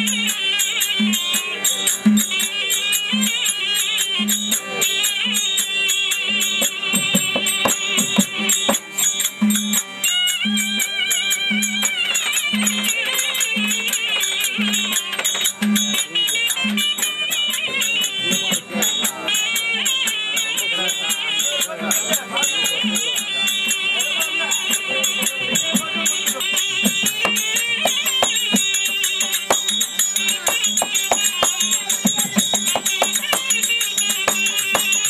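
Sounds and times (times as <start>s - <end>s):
small cymbal strikes: 0.0s - 35.0s
wavering reed melody: 0.0s - 35.0s.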